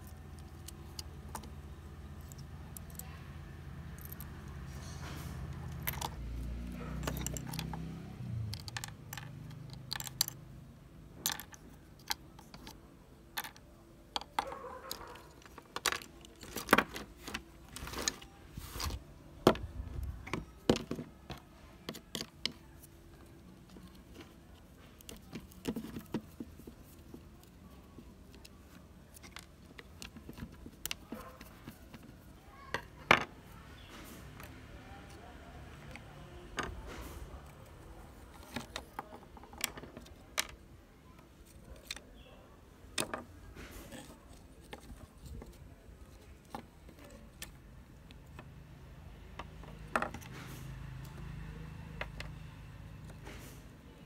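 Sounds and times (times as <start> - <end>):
plastic parts clicking and rattling: 0.0 - 3.2, 3.8 - 10.4, 11.1 - 42.2, 42.8 - 48.5, 49.3 - 53.6.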